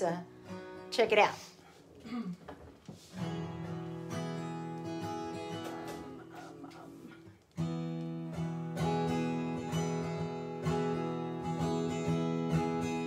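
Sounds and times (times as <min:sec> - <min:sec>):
acoustic guitar strumming: 0:00.0 - 0:01.0, 0:03.0 - 0:13.0.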